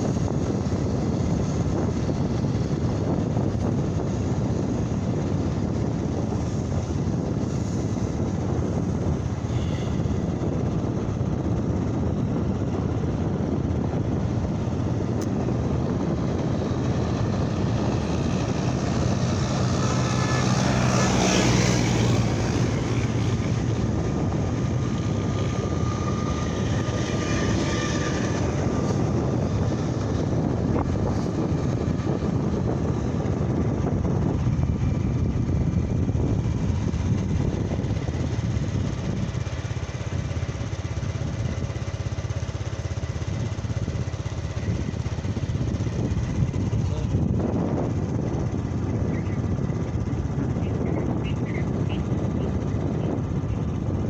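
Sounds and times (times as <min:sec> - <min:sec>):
motorcycle engine: 0:00.0 - 0:54.0
wind noise: 0:00.0 - 0:54.0.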